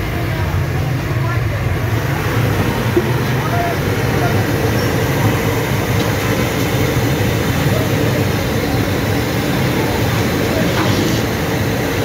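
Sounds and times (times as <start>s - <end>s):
gas burner roaring: 0.0s - 12.0s.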